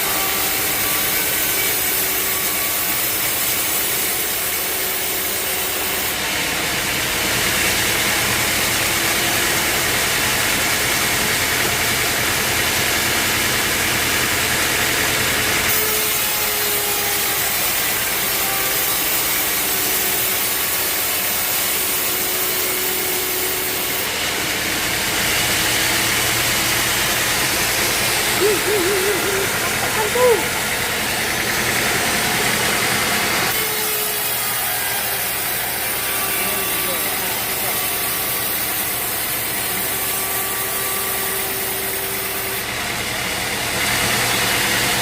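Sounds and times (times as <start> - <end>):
saw cutting through log: 0.0 - 45.0.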